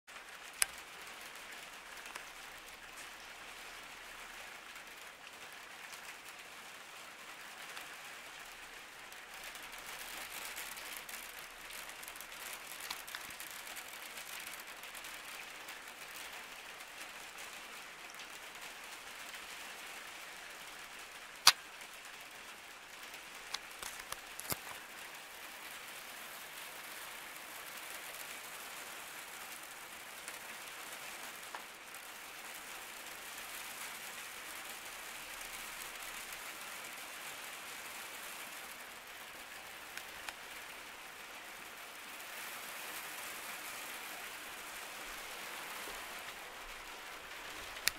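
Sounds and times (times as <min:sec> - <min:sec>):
rain pattering on a skylight: 0:00.1 - 0:47.9.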